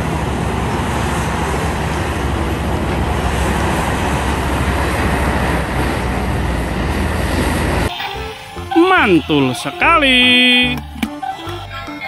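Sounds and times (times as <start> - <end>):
excavator engine droning: 0.0 - 12.0.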